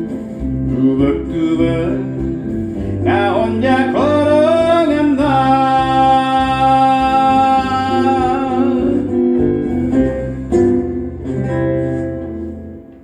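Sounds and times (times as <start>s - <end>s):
acoustic guitar accompaniment: 0.0s - 13.0s.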